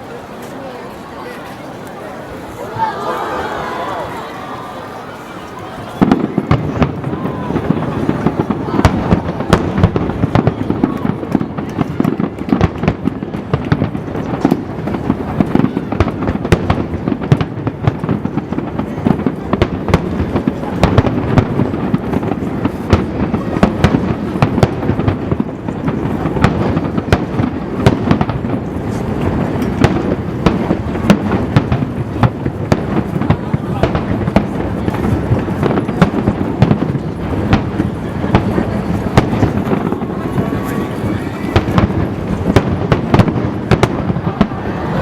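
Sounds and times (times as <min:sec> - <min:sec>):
fireworks exploding: 0:01.6 - 0:45.0.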